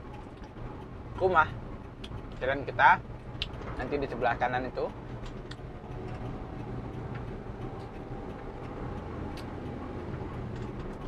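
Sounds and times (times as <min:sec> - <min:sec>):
road noise: 0:00.0 - 0:11.0
vehicle engine hum: 0:00.0 - 0:11.0.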